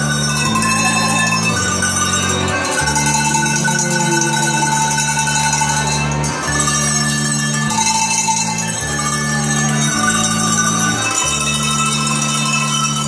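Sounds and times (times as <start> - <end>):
sustained accompanying chords: 0.0 - 13.0
tuned cowbells playing a melody: 0.0 - 13.0.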